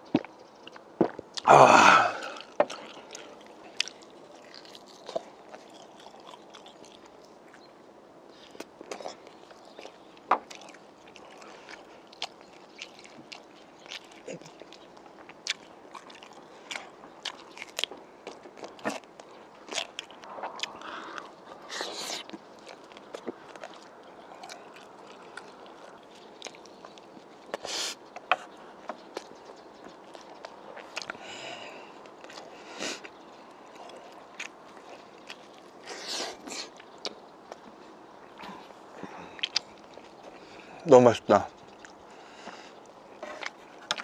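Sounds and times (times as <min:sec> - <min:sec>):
chewing and biting: 0:00.0 - 0:01.5, 0:02.1 - 0:40.8, 0:41.5 - 0:44.0
crunching cucumber: 0:00.0 - 0:07.7, 0:08.4 - 0:31.4, 0:32.0 - 0:40.4.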